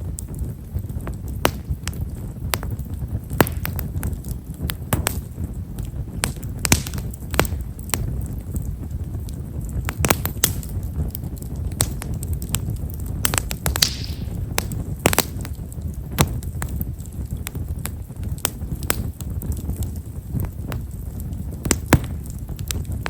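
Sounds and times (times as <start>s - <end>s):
firewood crackling and popping: 0.0s - 23.0s
low rumble of flames: 0.0s - 23.0s.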